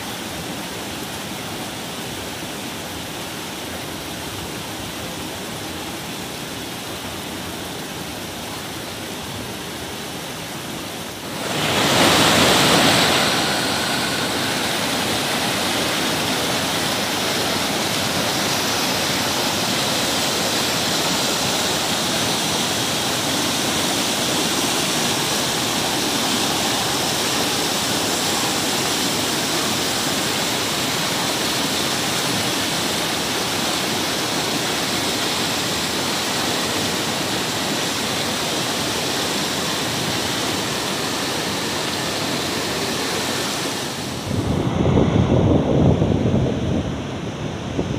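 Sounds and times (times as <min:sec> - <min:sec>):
river rushing over boulders: 0:00.0 - 0:44.8.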